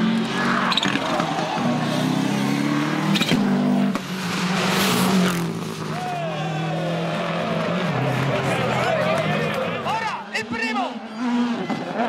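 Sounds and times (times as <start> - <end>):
car engine at high revs: 0.0 - 10.1, 10.9 - 12.0.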